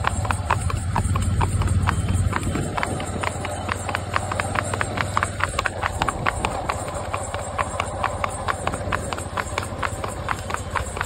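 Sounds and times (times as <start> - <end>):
hooves clip-clopping on asphalt: 0.0 - 11.0.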